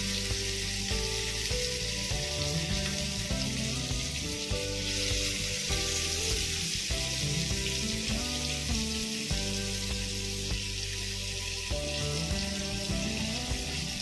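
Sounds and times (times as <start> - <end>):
background music of held notes: 0.0 - 14.0
food deep-frying in oil: 0.0 - 14.0.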